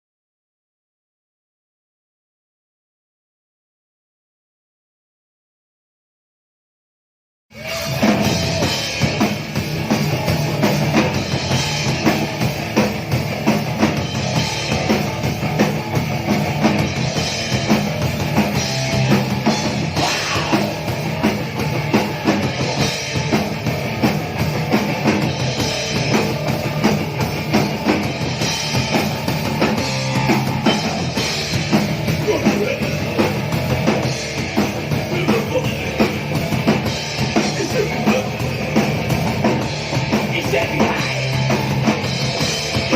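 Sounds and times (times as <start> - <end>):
live punk band playing: 7.5 - 42.9
drum kit hitting: 7.6 - 42.9.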